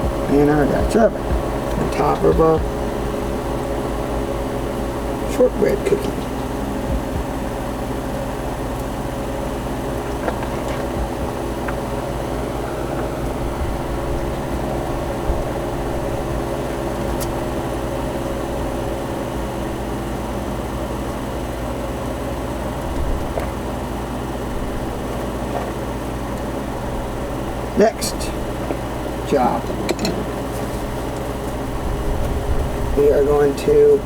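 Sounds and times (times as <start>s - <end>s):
motor droning: 0.0s - 34.0s.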